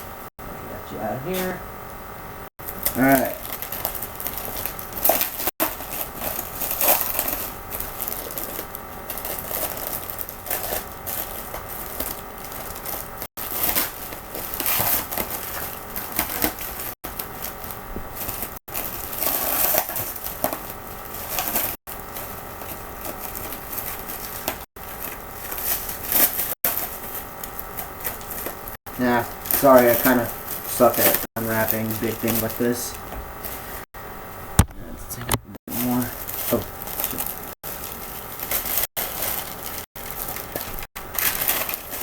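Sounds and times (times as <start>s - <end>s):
packaging crinkling: 2.6s - 33.8s, 35.7s - 42.0s.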